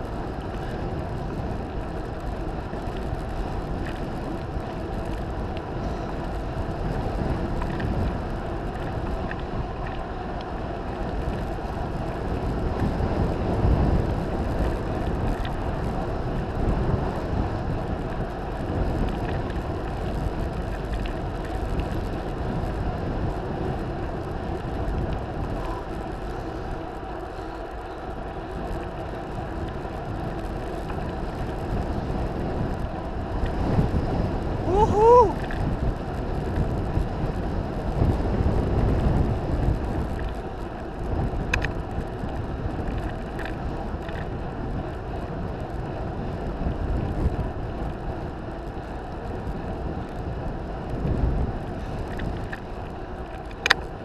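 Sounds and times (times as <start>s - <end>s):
tyres rolling on rough asphalt: 0.0s - 54.0s
wind buffeting microphone: 0.0s - 54.0s.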